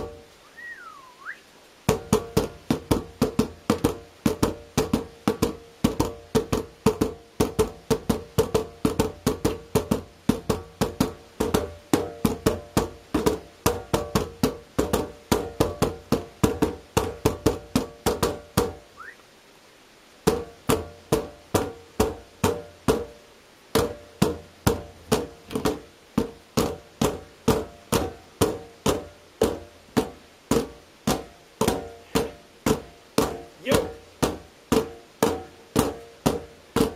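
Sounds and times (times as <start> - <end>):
nunchaku drumming on plastic bins: 0.0 - 0.2, 1.8 - 18.9, 20.2 - 36.9.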